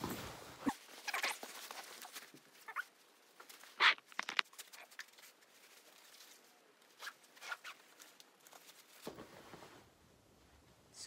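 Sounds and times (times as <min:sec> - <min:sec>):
coat fabric rustling: 0:00.0 - 0:10.0.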